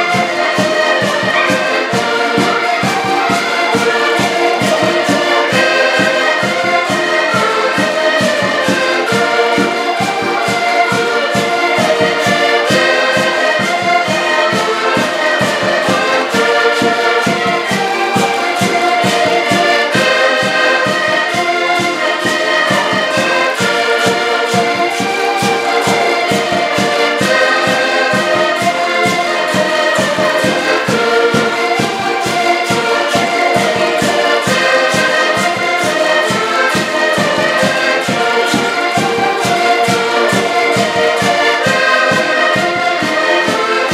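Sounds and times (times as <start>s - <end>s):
accordions playing dance tune: 0.0s - 43.9s.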